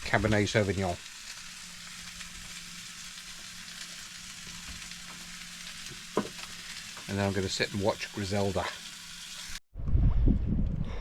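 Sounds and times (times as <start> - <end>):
food sizzling in a frying pan: 0.0 - 9.6.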